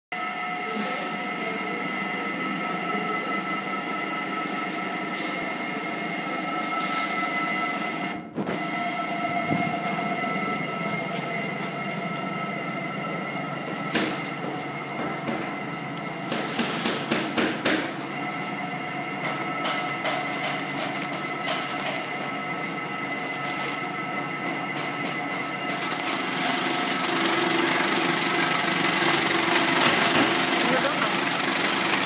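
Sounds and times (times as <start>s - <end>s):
slicing machine humming and whining: 0.2s - 32.0s.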